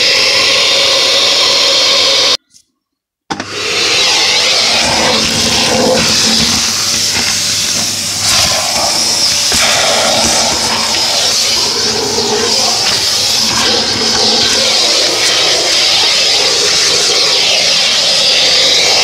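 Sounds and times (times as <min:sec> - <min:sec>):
vacuum cleaner sucking ash: 0:00.0 - 0:02.4, 0:03.3 - 0:19.0.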